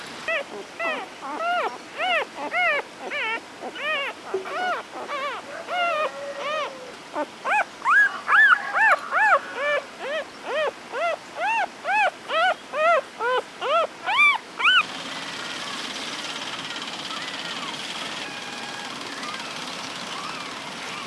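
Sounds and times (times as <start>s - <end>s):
puppies whimpering: 0.3s - 14.9s, 16.8s - 21.0s.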